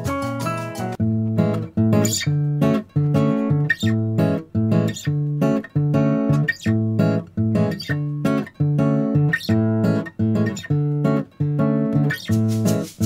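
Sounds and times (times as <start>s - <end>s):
guitar playing plucked chords: 0.0s - 13.0s.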